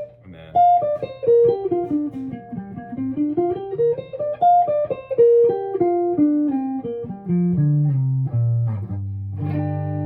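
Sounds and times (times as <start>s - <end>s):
guitar scale run: 0.0s - 10.0s.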